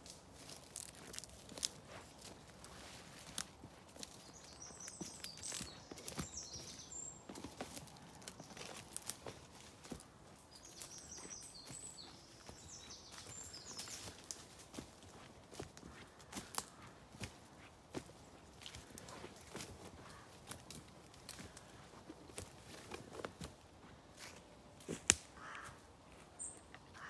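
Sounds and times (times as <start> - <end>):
footsteps snapping twigs: 0.0 - 23.6, 24.2 - 25.8
songbird singing: 0.5 - 24.6, 25.4 - 27.0.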